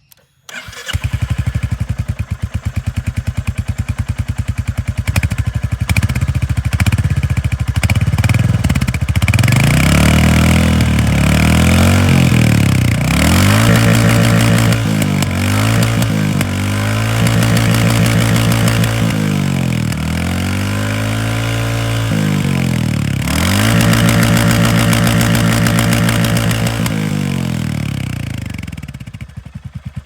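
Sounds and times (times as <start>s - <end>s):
motorcycle engine idling: 0.5s - 30.0s
motorcycle engine revving: 0.5s - 30.0s.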